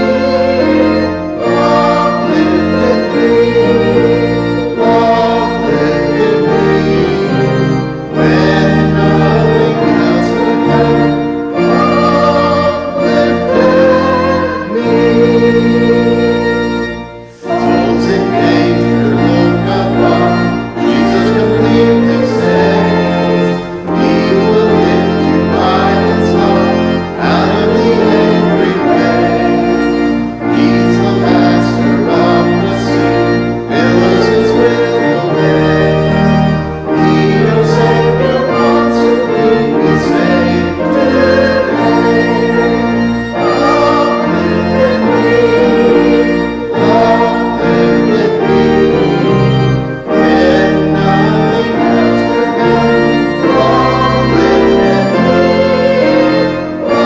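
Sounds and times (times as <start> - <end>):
church organ playing a hymn: 0.0 - 57.0
voices singing along: 0.0 - 57.0.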